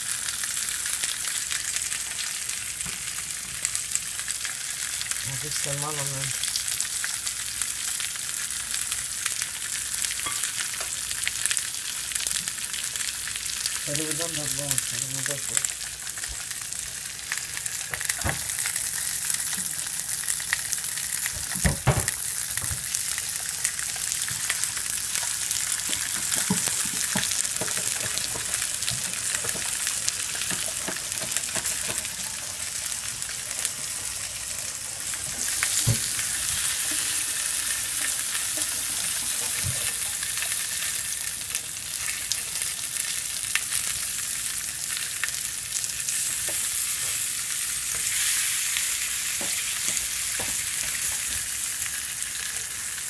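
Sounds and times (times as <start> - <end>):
corn sizzling on griddle: 0.0 - 53.0.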